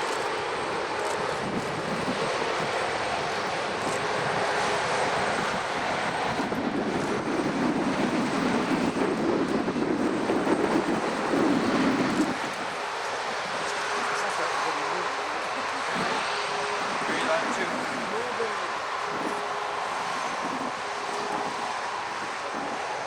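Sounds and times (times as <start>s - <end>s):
airliner engines passing: 0.0s - 23.0s.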